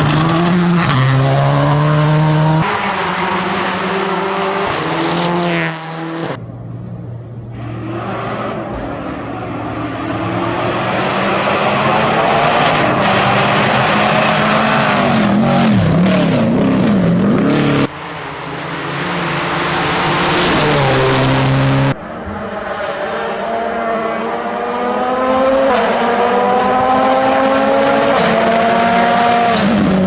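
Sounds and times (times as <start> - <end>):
rally car engines revving high: 0.0 - 30.0.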